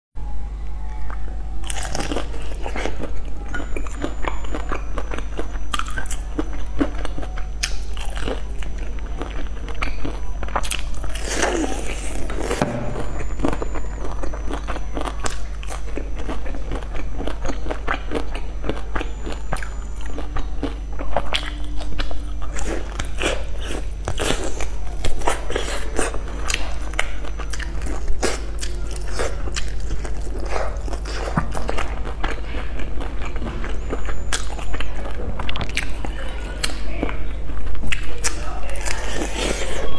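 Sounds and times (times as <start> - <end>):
steady low hum: 0.2 - 39.9
chewing fried chicken: 0.8 - 39.9.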